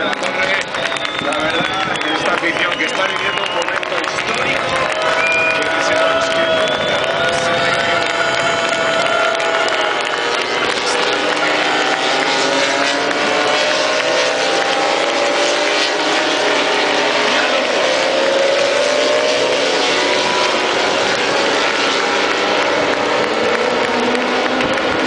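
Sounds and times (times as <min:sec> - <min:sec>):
racing motorcycles passing by: 0:00.0 - 0:25.0.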